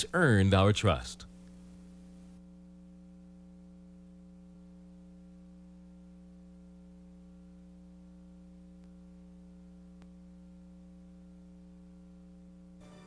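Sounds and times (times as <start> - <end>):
faint electrical mains hum: 0.0 - 13.0.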